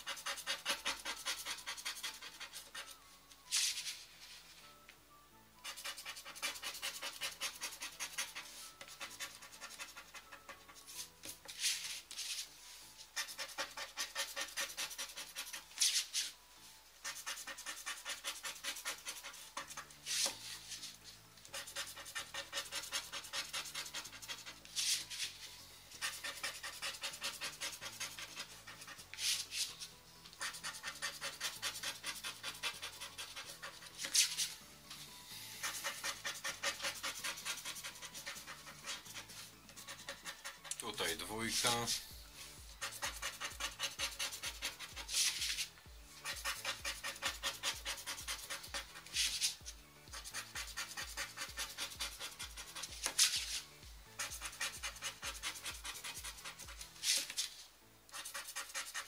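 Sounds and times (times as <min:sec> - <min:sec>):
scratch card scraping: 0:00.0 - 0:04.1, 0:05.6 - 0:16.4, 0:17.0 - 0:34.6, 0:35.4 - 0:40.8, 0:42.8 - 0:59.0.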